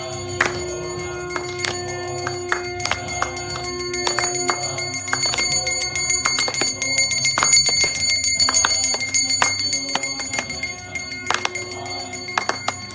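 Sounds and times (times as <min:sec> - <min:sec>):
brass hand bell ringing: 0:00.0 - 0:12.9
people clapping: 0:00.0 - 0:12.9.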